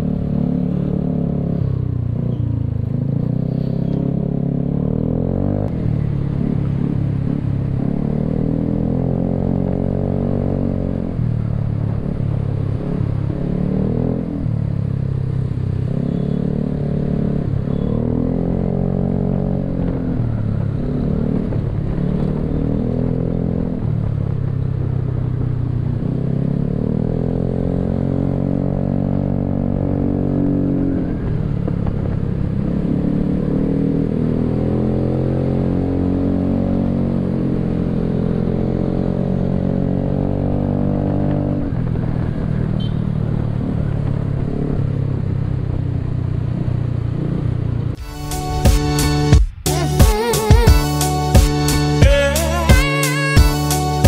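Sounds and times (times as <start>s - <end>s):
scooter engine accelerating: 0.0s - 54.0s.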